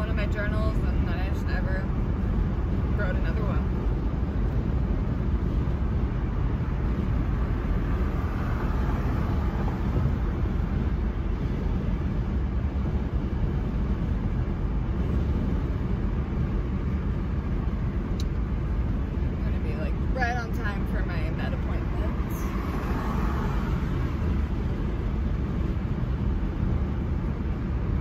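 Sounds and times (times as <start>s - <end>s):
car cabin road and wind noise: 0.0s - 28.0s.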